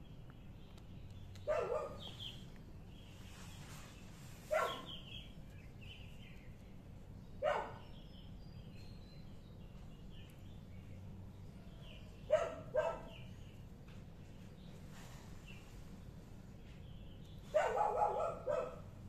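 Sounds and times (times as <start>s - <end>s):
faint chirping: 0.0s - 19.0s.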